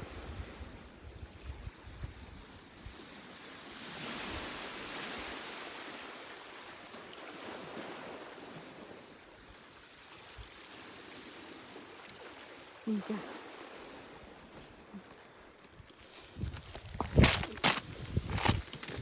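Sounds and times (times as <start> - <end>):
surf washing on pebbles: 2.9 - 19.0.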